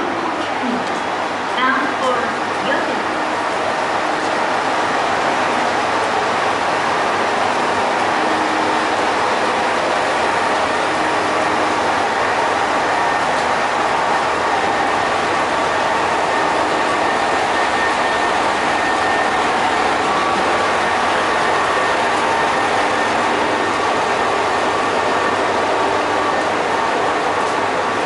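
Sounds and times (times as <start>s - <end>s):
diesel railcar engine idling: 0.0s - 28.0s.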